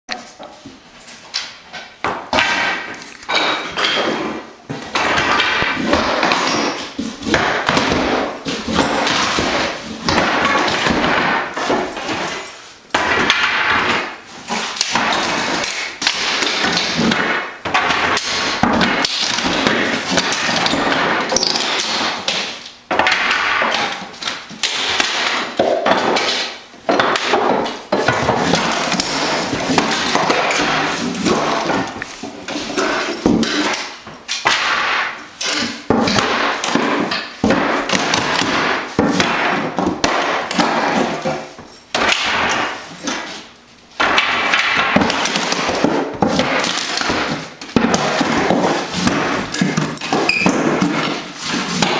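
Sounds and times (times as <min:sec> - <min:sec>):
hammering floorboards: 0:00.1 - 0:51.9.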